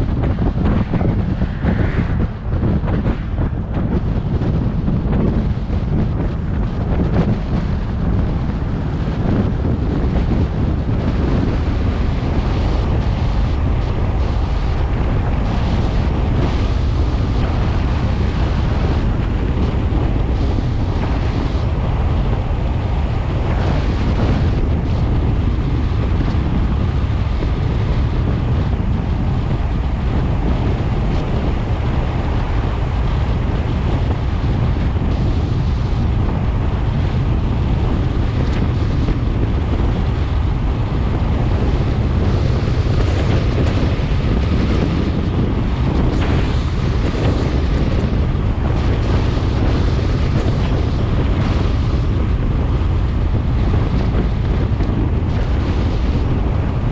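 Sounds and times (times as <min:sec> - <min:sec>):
wind rush on microphone: 0:00.0 - 0:56.9.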